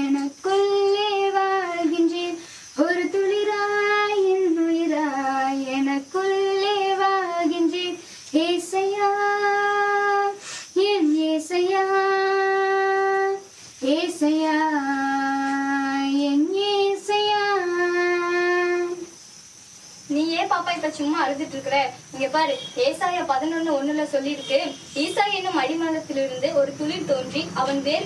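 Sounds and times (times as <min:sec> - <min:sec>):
girl singing unaccompanied: 0:00.0 - 0:19.2, 0:20.1 - 0:28.0.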